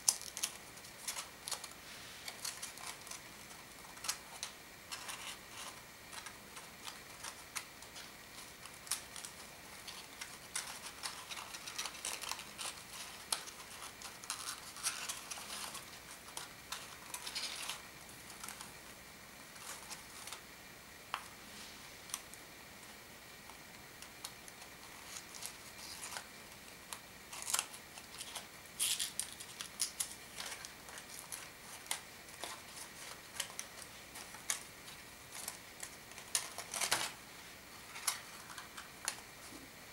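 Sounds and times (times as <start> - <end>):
folded paper rustling and crinkling: 0.0 - 18.8, 24.1 - 39.6.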